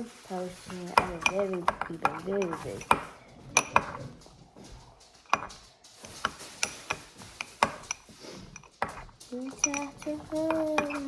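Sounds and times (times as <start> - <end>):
utensil knocking against bowl: 0.8 - 4.2, 5.3 - 11.0.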